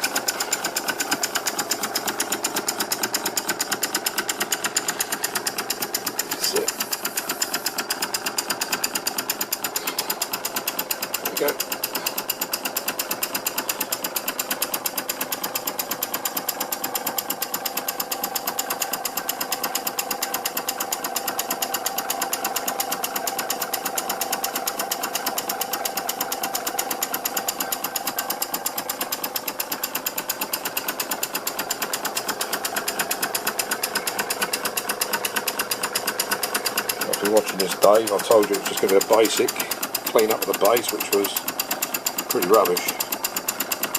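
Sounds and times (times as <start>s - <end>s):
model steam engine exhaust beating: 0.0s - 43.9s.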